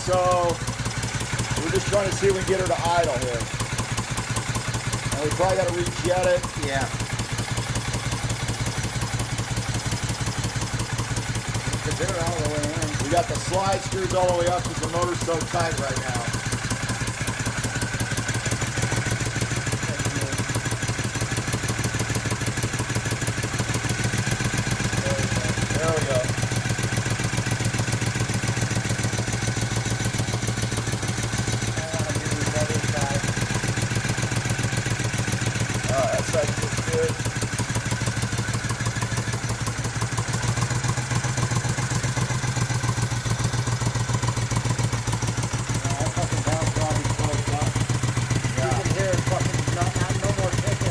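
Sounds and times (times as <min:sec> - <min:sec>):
v-twin engine fast idle: 0:00.0 - 0:50.9.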